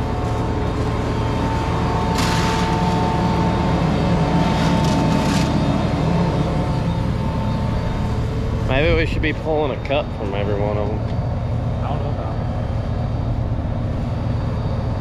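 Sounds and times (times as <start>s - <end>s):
high-pitched whine: 0.0s - 15.0s
tractor engine running: 0.0s - 15.0s.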